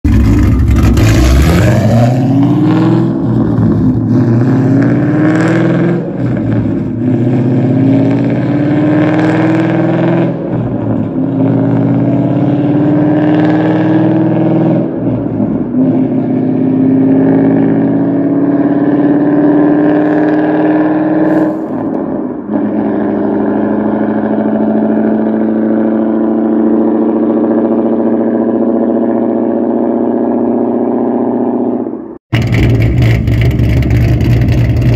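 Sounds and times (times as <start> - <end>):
car engine accelerating through gears: 0.1 - 34.9.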